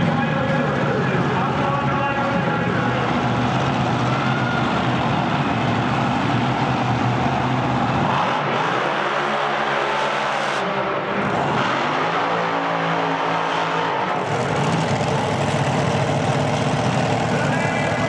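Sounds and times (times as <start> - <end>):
dragster engine revving: 0.0 - 18.0.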